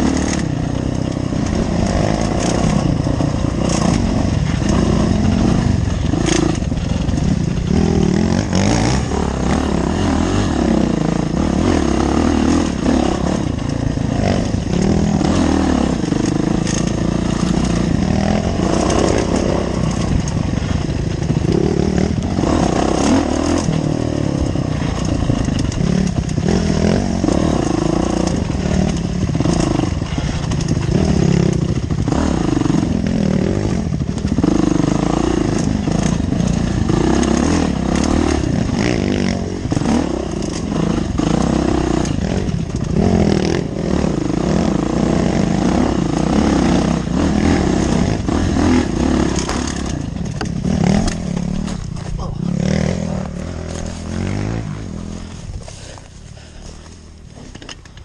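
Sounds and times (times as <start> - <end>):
bike rattling over bumps: 0.0 - 58.0
dirt bike engine revving: 0.0 - 58.0.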